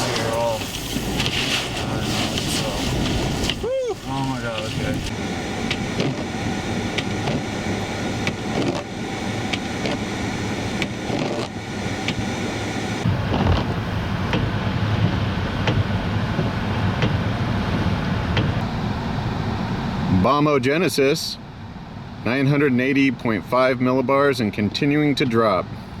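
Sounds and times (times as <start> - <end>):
vehicle low rumble: 0.0 - 26.0
wind: 0.0 - 26.0.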